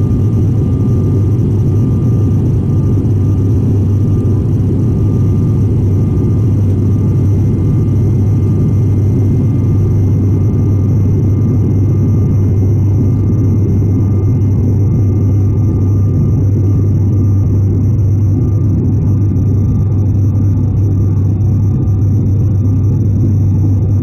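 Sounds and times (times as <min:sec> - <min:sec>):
airliner low rumble: 0:00.0 - 0:24.0.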